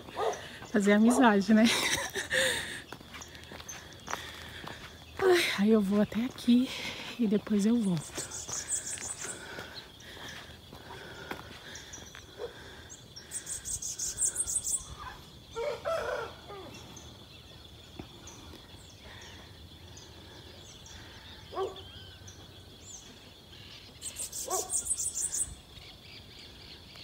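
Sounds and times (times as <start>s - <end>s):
small birds chirping: 0.0s - 15.8s, 16.4s - 27.0s.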